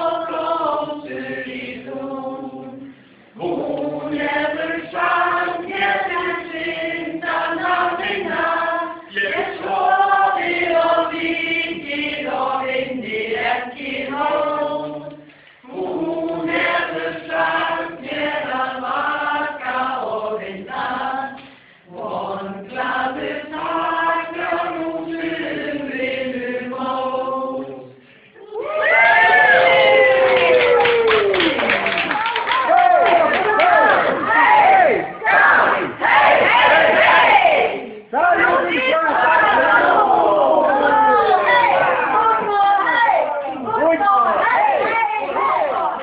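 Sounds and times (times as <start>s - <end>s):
choir singing: 0.0s - 28.6s, 33.2s - 46.0s.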